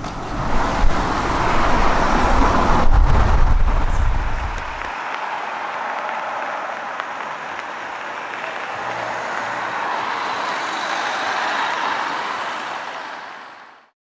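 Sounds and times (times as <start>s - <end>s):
road noise from passing cars: 0.0s - 13.9s.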